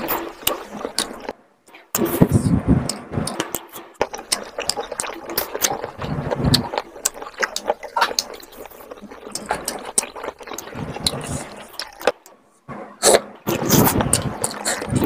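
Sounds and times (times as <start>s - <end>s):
wet chewing and lip smacking: 0.0s - 12.4s, 13.0s - 15.0s
sharp mouth clicks: 0.0s - 15.0s.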